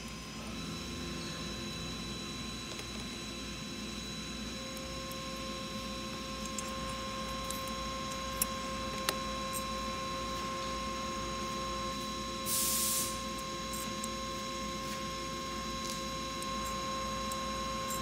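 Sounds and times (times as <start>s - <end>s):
electrical hum with high tones: 0.0s - 18.0s.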